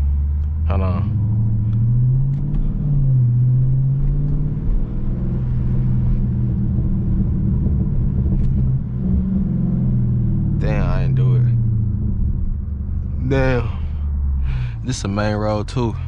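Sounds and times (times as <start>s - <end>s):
car engine exhaust drone: 0.0s - 16.0s.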